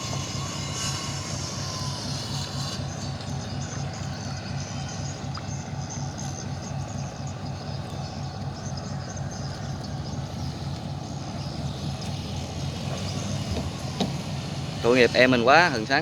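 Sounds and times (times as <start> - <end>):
diesel engine low drone: 0.0 - 16.0.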